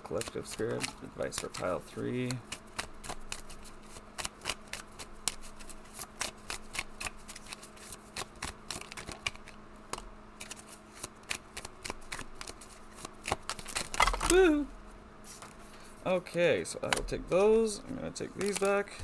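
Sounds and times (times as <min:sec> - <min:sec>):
cards shuffled by hand: 0:00.0 - 0:19.0.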